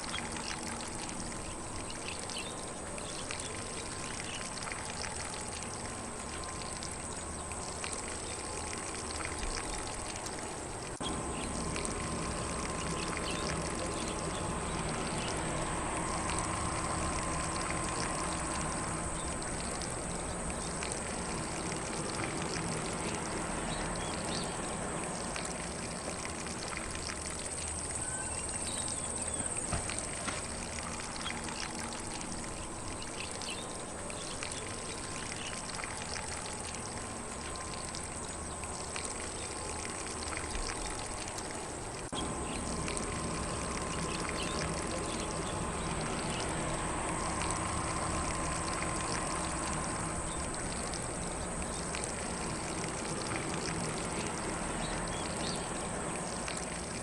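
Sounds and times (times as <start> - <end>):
sprinkler spraying water on grass: 0.0 - 57.0.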